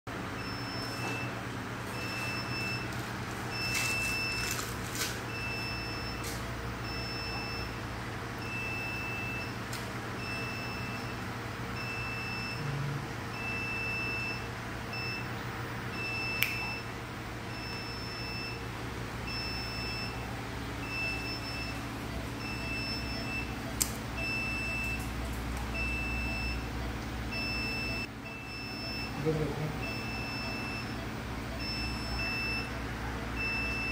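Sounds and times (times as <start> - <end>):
low machinery hum: 0.1 - 33.9
equipment alarm beeping: 0.2 - 16.9, 17.5 - 33.9.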